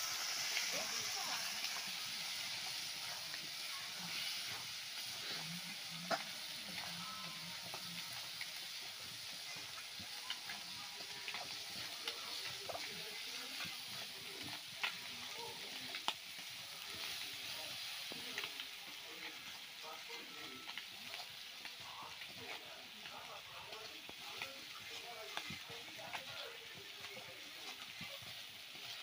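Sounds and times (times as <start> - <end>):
potato wedges sizzling in oil: 0.0 - 29.0.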